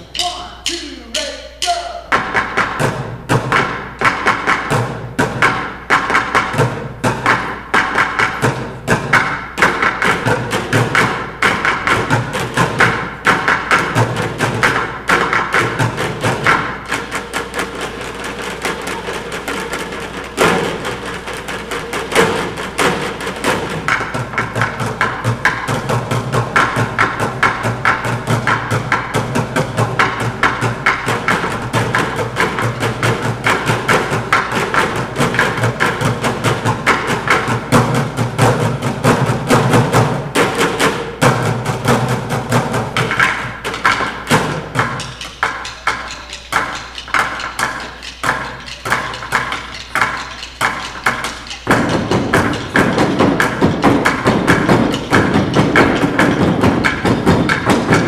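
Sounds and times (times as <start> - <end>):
percussion ensemble playing: 0.0 - 58.0.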